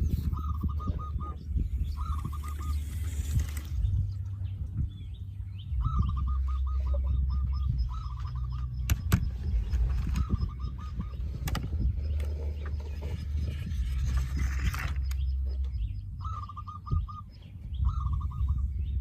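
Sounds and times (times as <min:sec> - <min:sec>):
bird trilling: 0:00.0 - 0:19.0
steady low rumble: 0:00.0 - 0:19.0.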